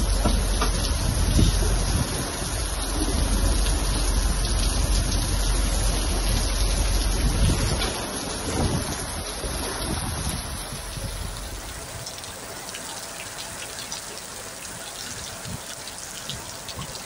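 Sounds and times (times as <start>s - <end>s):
wind rumble on microphone: 0.0s - 12.2s, 15.1s - 17.0s
heavy rain falling: 0.0s - 17.0s.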